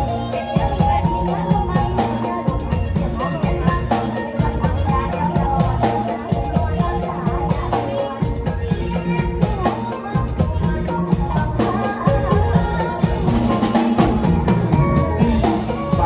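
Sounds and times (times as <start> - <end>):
drum kit beat: 0.0 - 16.0
keyboard melody: 0.0 - 16.0.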